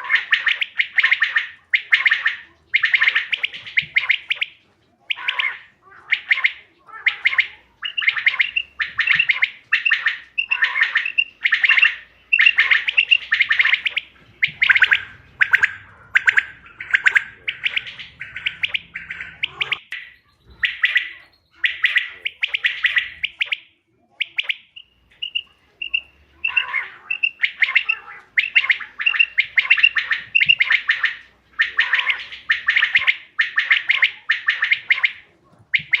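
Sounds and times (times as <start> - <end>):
quail calling in short bursts: 0.0 - 36.0.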